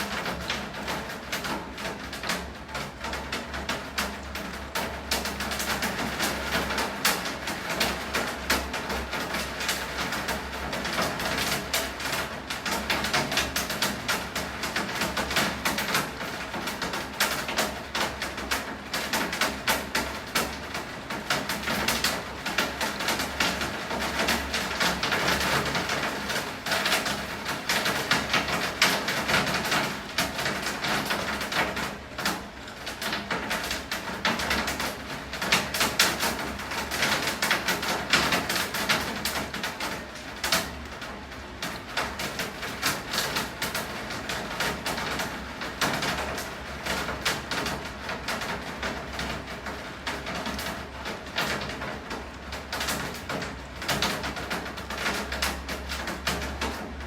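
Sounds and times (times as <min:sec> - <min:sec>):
rain splattering on hard surfaces: 0:00.0 - 0:57.0.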